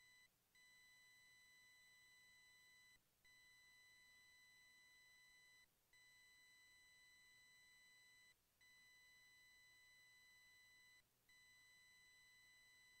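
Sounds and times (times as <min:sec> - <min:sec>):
faint electronic beep tone: 0:00.0 - 0:13.0.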